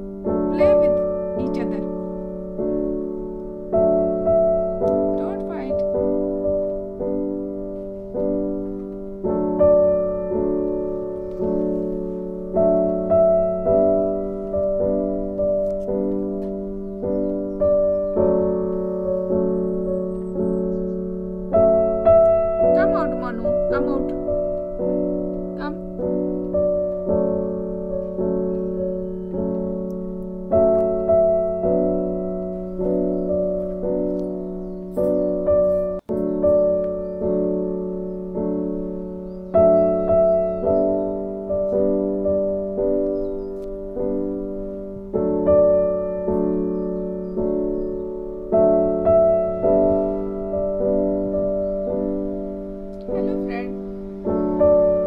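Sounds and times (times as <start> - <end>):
soft piano chords: 0.0 - 55.0.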